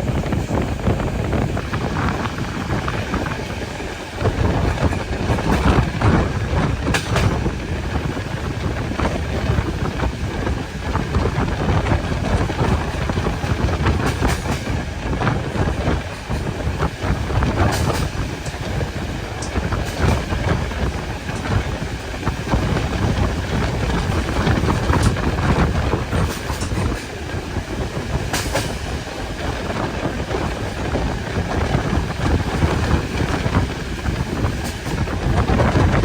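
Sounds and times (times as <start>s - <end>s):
rail clacks: 0.0s - 36.0s
train wheels rumbling on rails: 0.0s - 36.0s
wind buffeting microphone: 0.0s - 36.0s.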